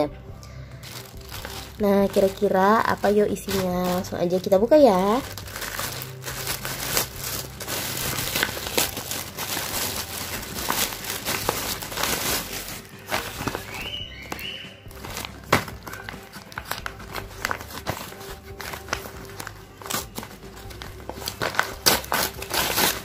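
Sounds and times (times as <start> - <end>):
plastic and paper crinkling: 0.8 - 23.0.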